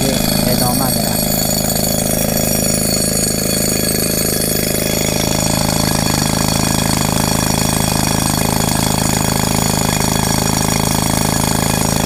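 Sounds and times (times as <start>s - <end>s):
rock drill hammering: 0.0s - 12.0s.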